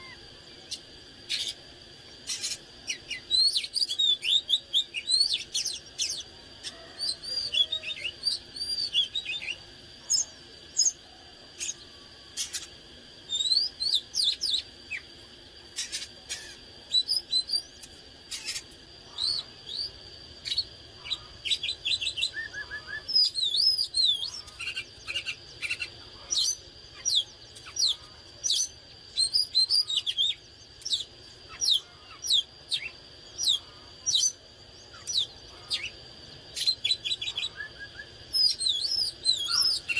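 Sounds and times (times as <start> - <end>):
bird singing whistled notes: 2.3 - 11.0, 13.3 - 15.1, 15.9 - 36.0, 36.6 - 39.9.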